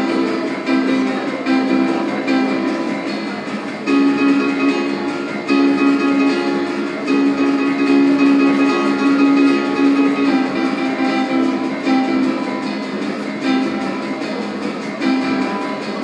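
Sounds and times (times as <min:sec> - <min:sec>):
plucked string music over loudspeakers: 0:00.0 - 0:16.0.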